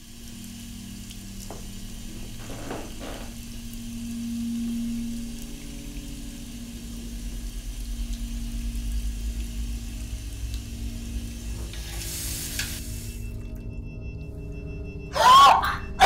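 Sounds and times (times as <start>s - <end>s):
low hum: 0.0s - 15.2s.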